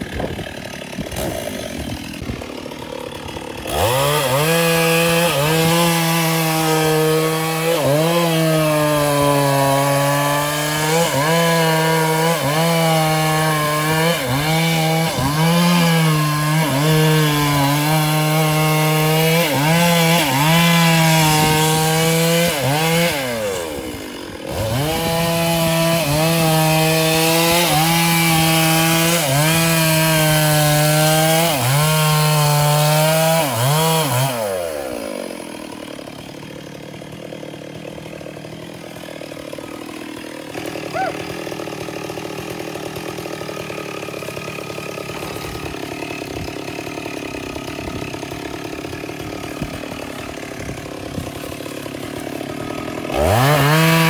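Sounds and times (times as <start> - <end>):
chainsaw cutting into wood: 0.0 - 54.0
chainsaw idling: 0.0 - 54.0.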